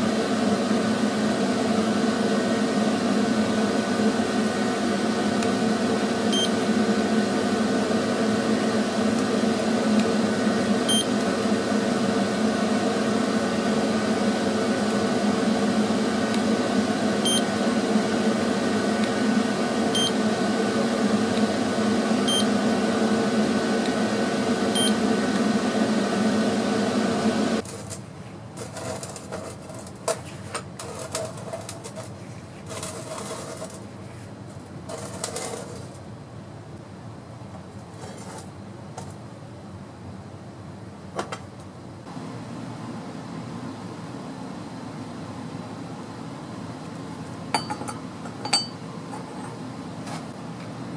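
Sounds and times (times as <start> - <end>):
electrical hum with fan noise: 0.0 - 50.9.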